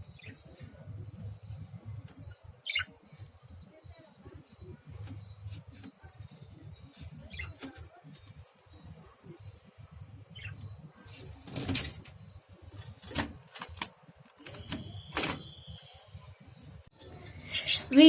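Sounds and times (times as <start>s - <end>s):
lovebirds chirping: 0.0s - 13.0s, 14.4s - 18.0s.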